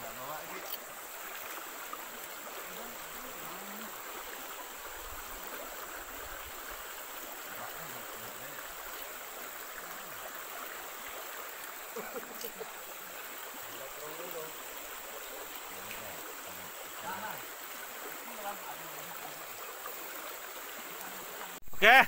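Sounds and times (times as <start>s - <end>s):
stream rippling over rocks: 0.0s - 22.0s.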